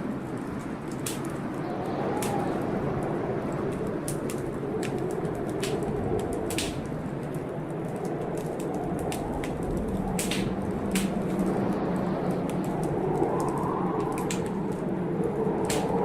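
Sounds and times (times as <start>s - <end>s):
storm rumble: 0.0s - 16.0s
wood fire crackling: 0.0s - 16.0s.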